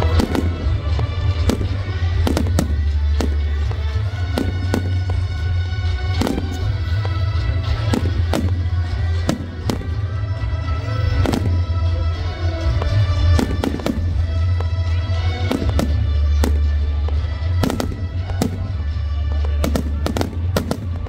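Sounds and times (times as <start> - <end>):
background music: 0.0 - 21.0
fireworks bursting: 0.0 - 21.0.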